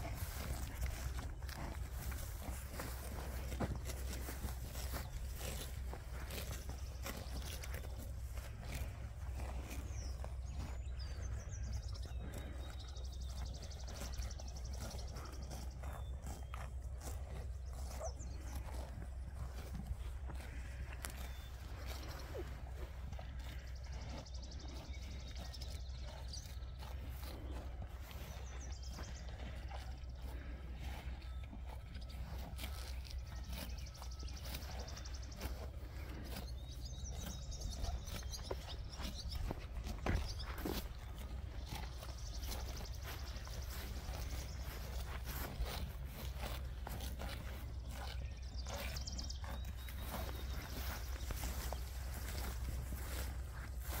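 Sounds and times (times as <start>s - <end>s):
cattle tearing and munching grass: 0.0s - 54.0s.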